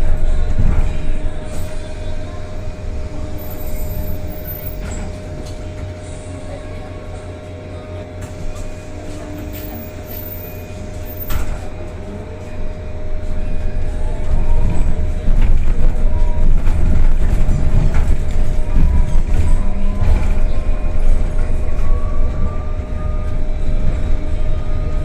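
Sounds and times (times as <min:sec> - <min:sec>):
electric bus whine: 0:00.0 - 0:25.0
road rumble: 0:00.0 - 0:25.0.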